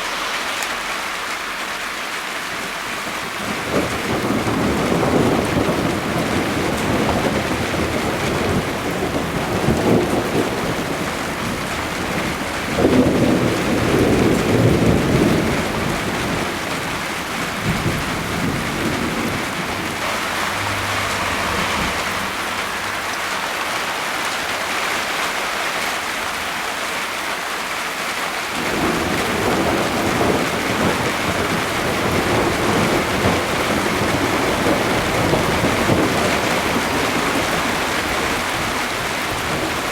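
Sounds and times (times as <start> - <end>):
rain hissing: 0.0 - 39.9
rolling thunder: 3.4 - 24.3, 28.6 - 39.9.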